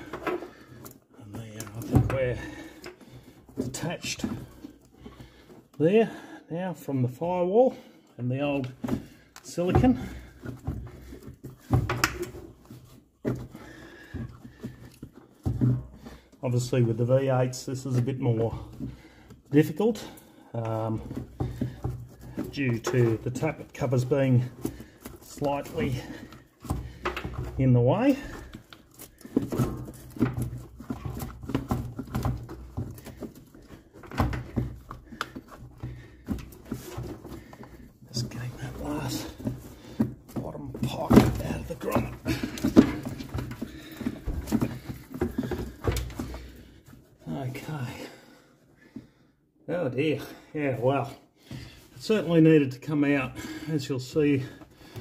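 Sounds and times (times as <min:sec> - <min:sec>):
plastic case scraping and knocking: 0:00.0 - 0:06.0, 0:08.4 - 0:48.1.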